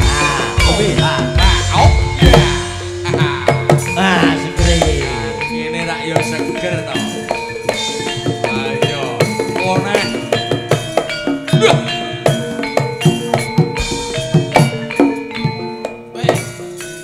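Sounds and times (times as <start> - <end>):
hand drums busy rhythm: 0.0 - 17.0
metallophones and gongs: 0.0 - 17.0.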